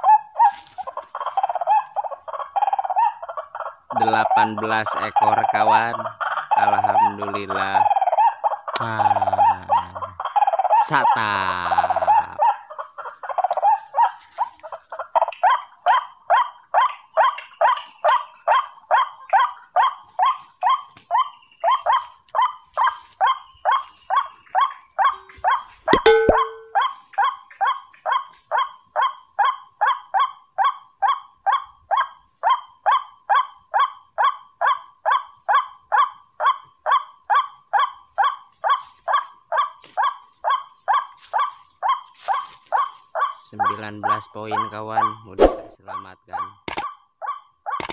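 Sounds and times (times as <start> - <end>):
high-pitched insect hiss: 0.0 - 47.9.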